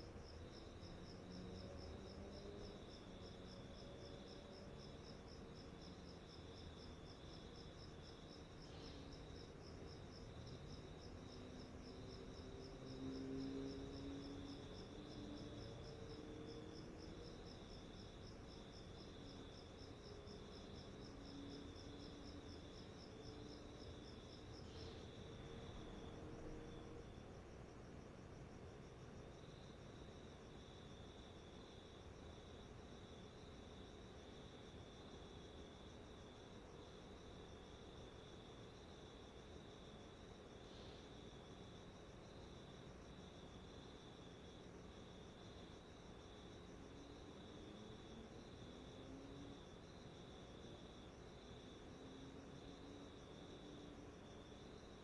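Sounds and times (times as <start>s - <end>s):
insect trill: 0.0s - 55.0s.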